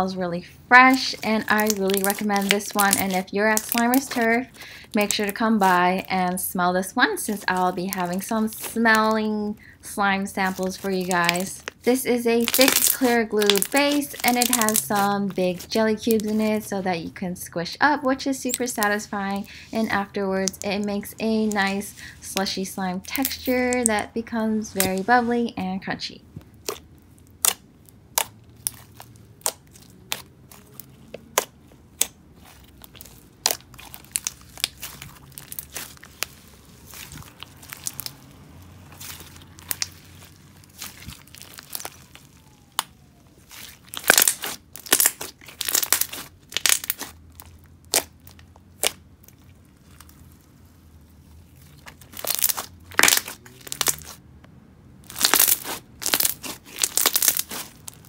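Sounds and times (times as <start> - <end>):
slime squished by hand crackling: 0.7 - 6.4, 7.0 - 16.7, 18.3 - 24.1, 26.5 - 54.2, 55.0 - 58.0.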